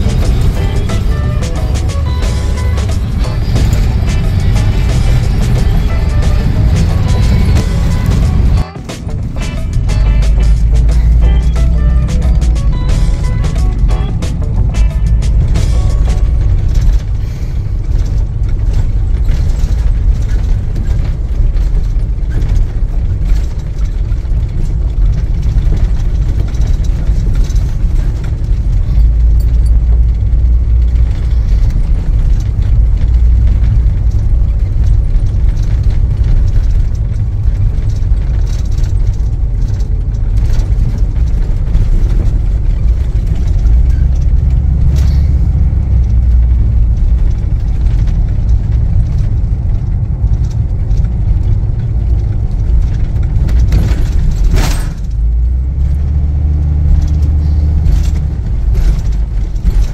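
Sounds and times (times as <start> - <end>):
vehicle engine and tyre rumble: 0.0 - 59.9.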